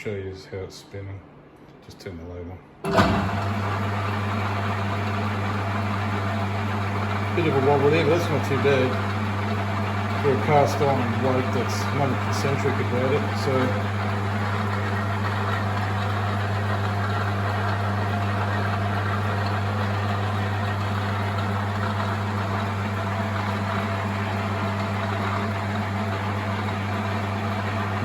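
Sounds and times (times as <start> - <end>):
metal lathe running: 2.9 - 28.0.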